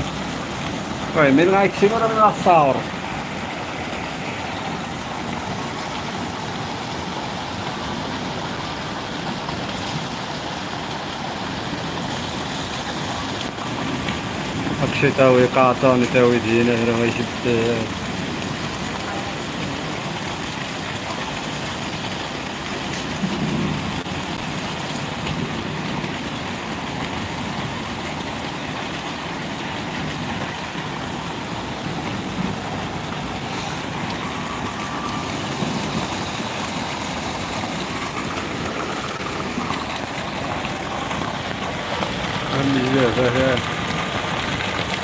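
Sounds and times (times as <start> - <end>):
flood water rushing: 0.0 - 45.0
heavy rain: 0.0 - 45.0.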